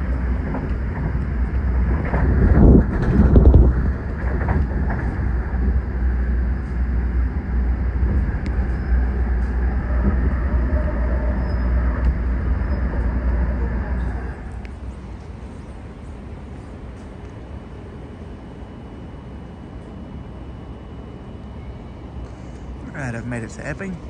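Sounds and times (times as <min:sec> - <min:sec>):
station platform hum: 0:00.0 - 0:24.0
train wheels rumbling on rail: 0:00.0 - 0:24.0.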